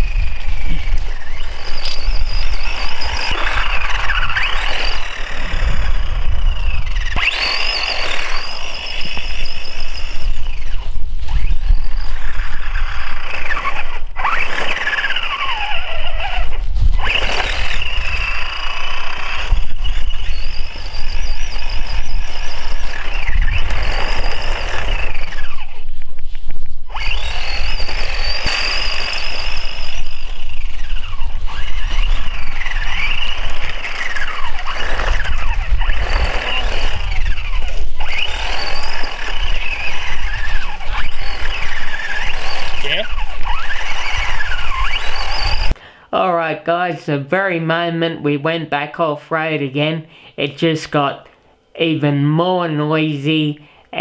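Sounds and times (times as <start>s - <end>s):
rc car motor whining: 0.0s - 45.8s.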